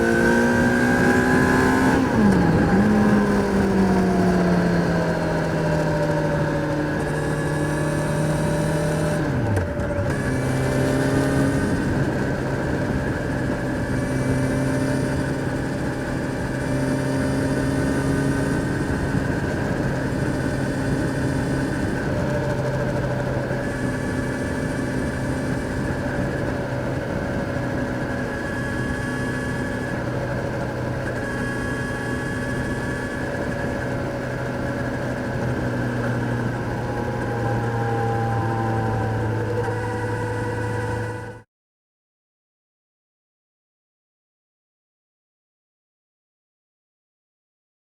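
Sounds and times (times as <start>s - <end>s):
motorcycle engine revving: 0.0s - 41.4s.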